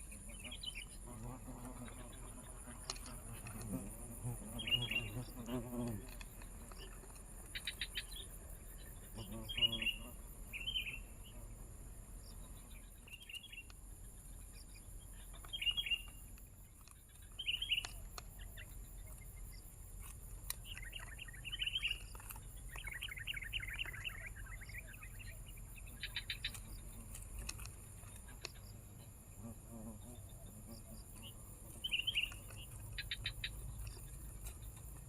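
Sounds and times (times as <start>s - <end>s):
bird chirping: 0.0s - 11.4s, 12.2s - 35.0s.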